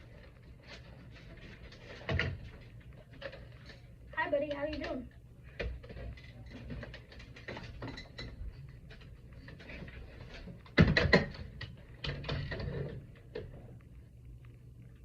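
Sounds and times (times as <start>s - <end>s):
small clicks and rattles of handling: 0.0s - 15.0s.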